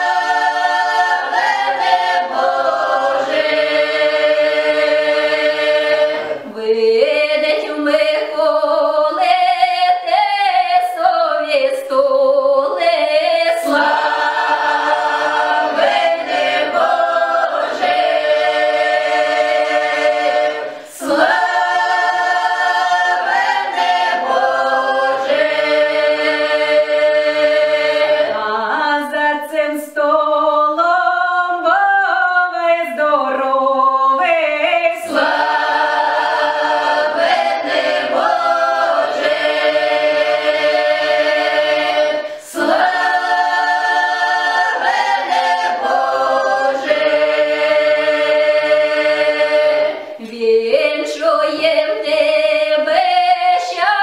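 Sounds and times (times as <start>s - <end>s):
mixed choir singing a carol: 0.0s - 54.0s.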